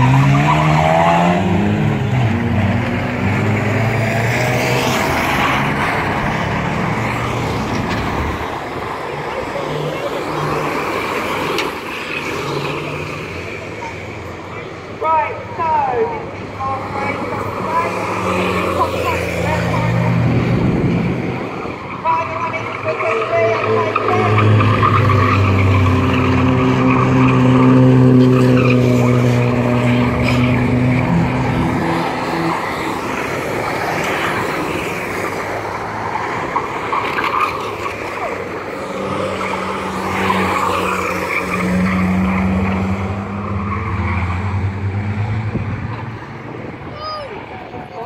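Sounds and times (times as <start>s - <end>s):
race car engines: 0.0s - 48.0s
tyres skidding and squealing: 0.0s - 48.0s.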